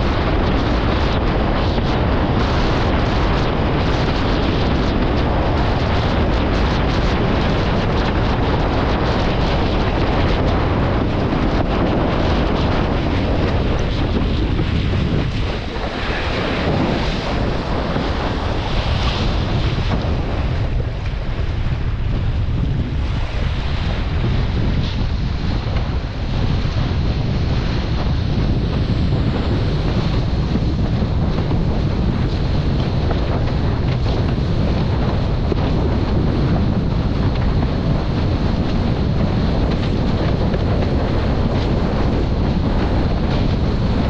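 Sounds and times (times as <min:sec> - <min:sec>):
water rushing and slapping: 0:00.0 - 0:44.0
wind buffeting microphone: 0:00.0 - 0:44.0.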